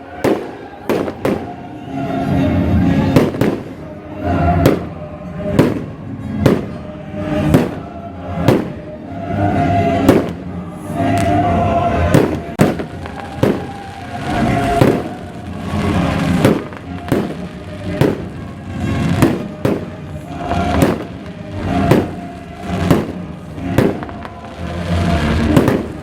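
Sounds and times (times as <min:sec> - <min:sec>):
fireworks bangs: 0:00.0 - 0:26.0
music over loudspeakers: 0:00.0 - 0:26.0.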